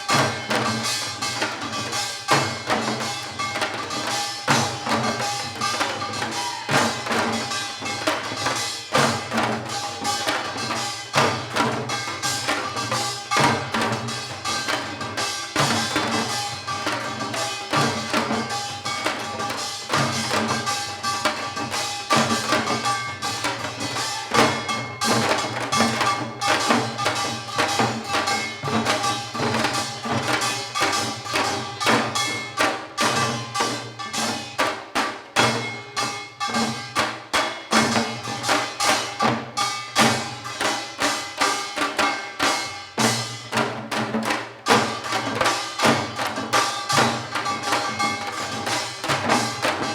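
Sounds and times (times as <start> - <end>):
hourglass drums fast rhythm: 0.0 - 49.9.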